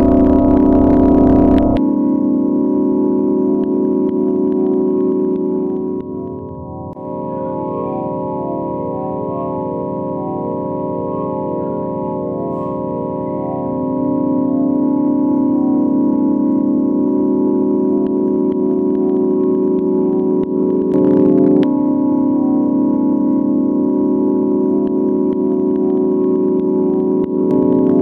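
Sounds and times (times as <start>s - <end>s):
organ-like electronic drone: 0.0s - 28.0s.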